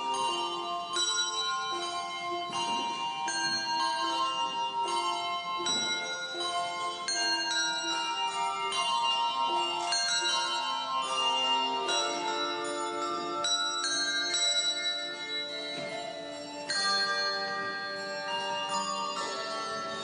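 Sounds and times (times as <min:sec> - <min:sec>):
handbell choir ringing chords: 0:00.0 - 0:20.0.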